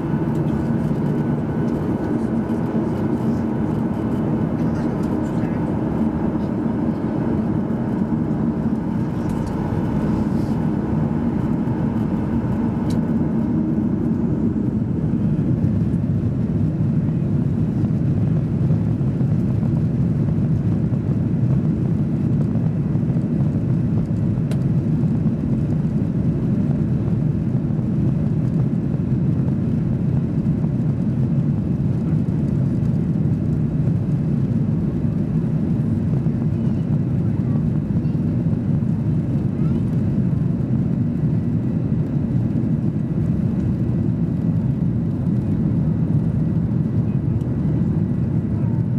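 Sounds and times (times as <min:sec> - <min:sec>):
jet engines low rumble: 0:00.0 - 0:48.9.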